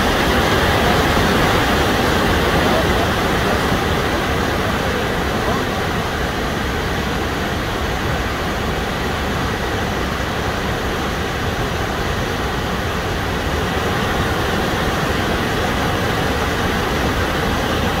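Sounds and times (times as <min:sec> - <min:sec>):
water rushing over rock: 0:00.0 - 0:18.0.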